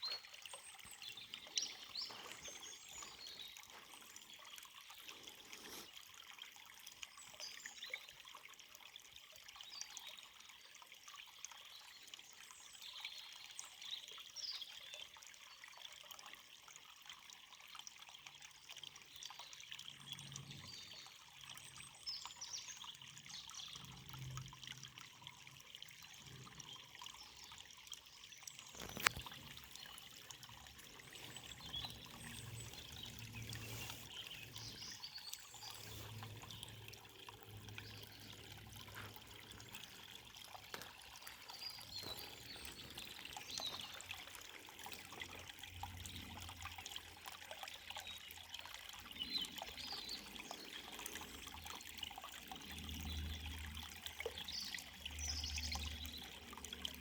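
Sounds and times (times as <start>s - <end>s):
river water trickling and splashing: 0.0s - 57.0s.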